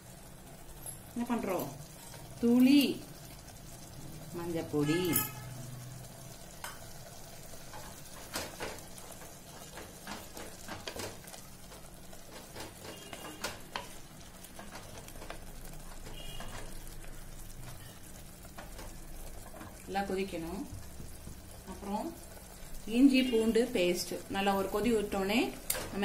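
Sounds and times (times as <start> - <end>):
sauce sizzling and bubbling: 0.0 - 26.0.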